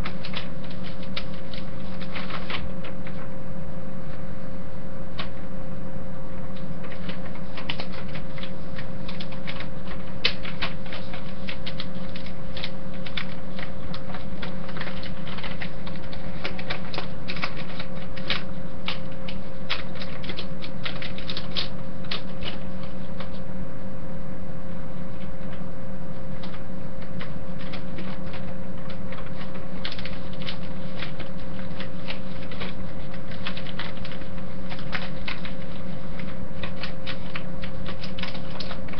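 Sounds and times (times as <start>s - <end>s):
paper rustling and crackling: 0.0s - 3.4s, 5.2s - 5.5s, 6.3s - 23.5s, 25.0s - 38.9s
steady background hum: 0.0s - 38.9s.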